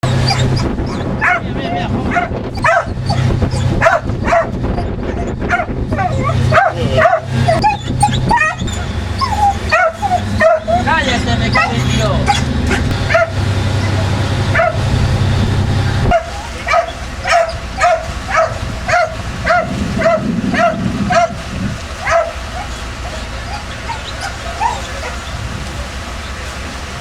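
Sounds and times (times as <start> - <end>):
steady low hum: 0.0 - 27.0
animal yelping: 0.1 - 1.5, 2.1 - 14.8, 16.0 - 25.4.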